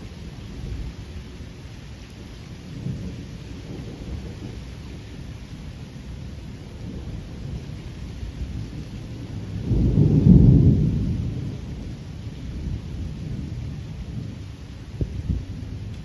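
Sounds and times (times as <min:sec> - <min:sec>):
thunder rumble: 0:00.0 - 0:16.0.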